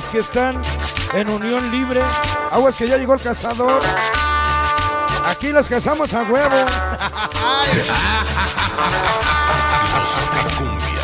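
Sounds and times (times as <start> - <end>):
cumbia music over sound system: 0.0 - 11.0.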